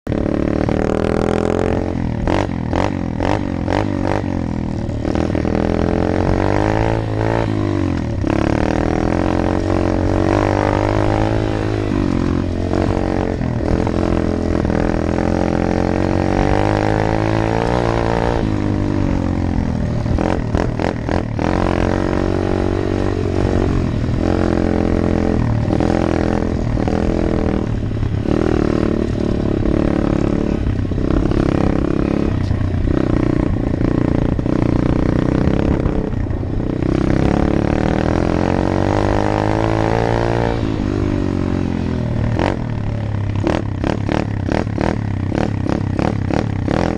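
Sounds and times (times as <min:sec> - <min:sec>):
dirt bike engine revving: 0:00.1 - 0:46.9.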